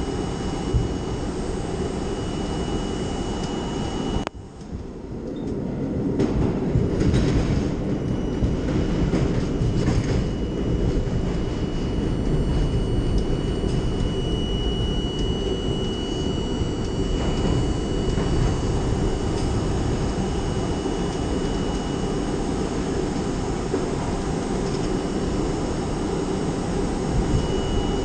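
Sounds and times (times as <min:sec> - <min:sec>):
thin high whine: 0:00.0 - 0:05.5, 0:07.1 - 0:28.0
subway train rumbling: 0:00.0 - 0:28.0.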